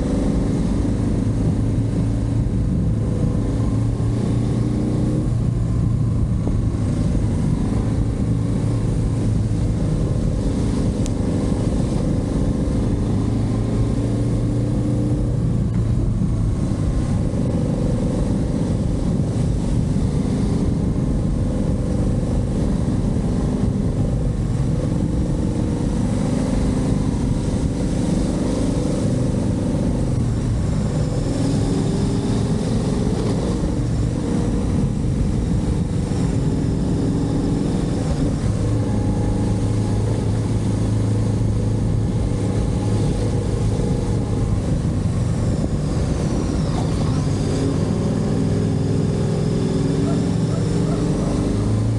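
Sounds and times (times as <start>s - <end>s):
motorcycle engine running: 0.0s - 51.9s
steady rushing noise: 0.0s - 51.9s.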